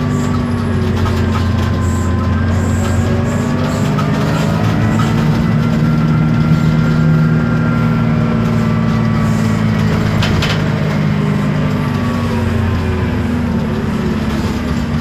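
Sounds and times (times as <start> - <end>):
bus diesel engine running: 0.0 - 15.0
high gearbox whine: 0.0 - 15.0.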